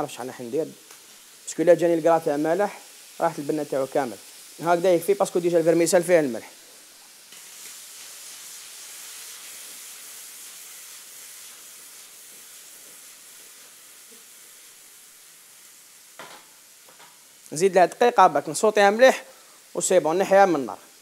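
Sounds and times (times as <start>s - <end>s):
shrimp sizzling in butter: 0.0s - 21.0s.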